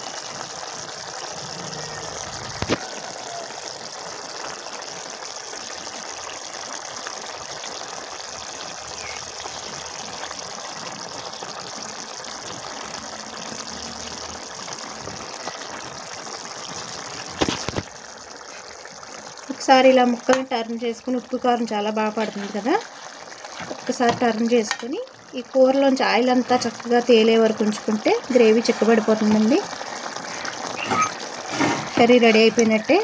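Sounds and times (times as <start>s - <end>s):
gravy bubbling in a pan: 0.0s - 33.0s.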